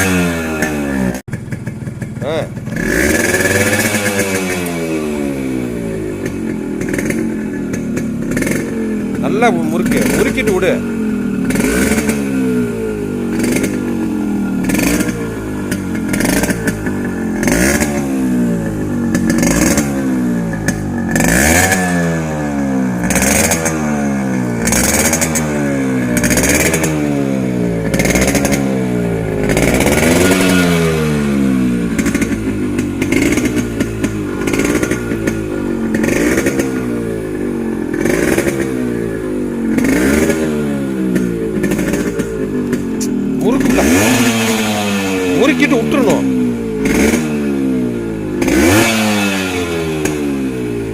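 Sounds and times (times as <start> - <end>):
exhaust cracks: 0.0 - 50.9
two-stroke engine revving: 0.0 - 50.9.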